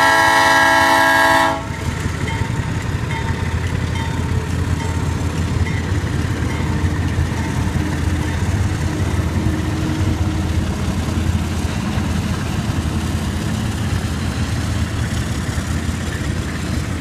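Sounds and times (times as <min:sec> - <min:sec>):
diesel locomotives passing: 0:00.0 - 0:17.0.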